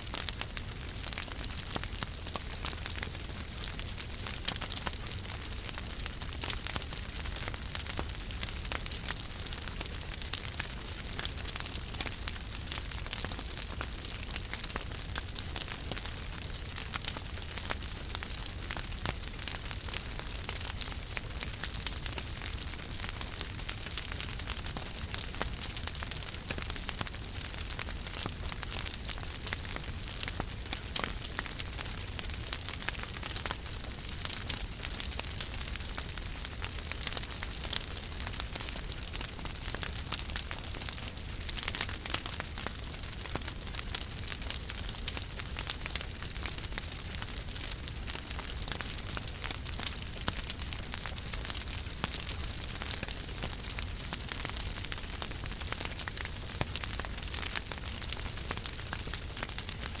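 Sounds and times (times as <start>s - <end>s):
wood fire crackling: 0.0s - 60.0s.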